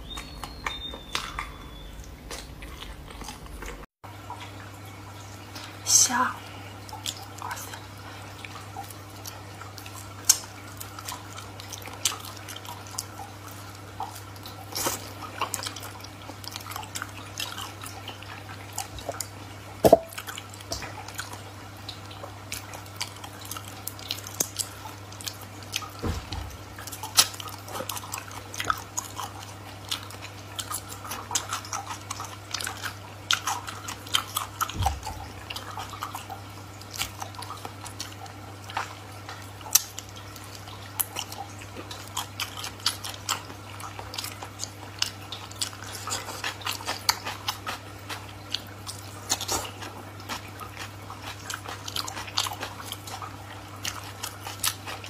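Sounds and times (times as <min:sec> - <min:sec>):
wet chewing and sucking: 0:00.0 - 0:04.4, 0:06.7 - 0:55.0.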